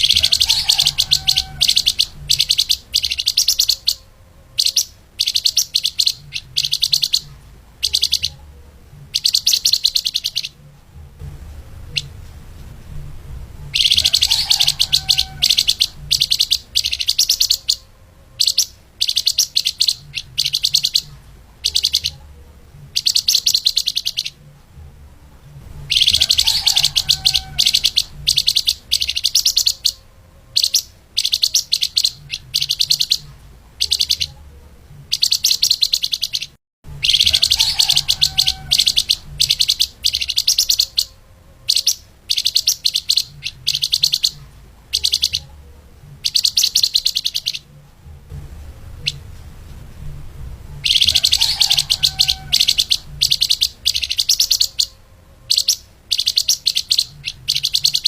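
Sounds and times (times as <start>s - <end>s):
songbird singing high chirps: 0.0s - 10.6s, 13.6s - 24.4s, 25.8s - 34.4s, 35.0s - 47.8s, 50.8s - 58.0s
faint low hum: 0.0s - 58.0s.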